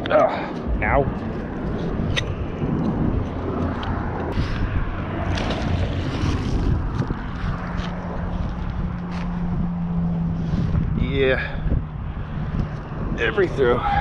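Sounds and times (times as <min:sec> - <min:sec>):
low engine-like drone: 0:00.0 - 0:14.0
wind buffeting microphone: 0:00.0 - 0:14.0.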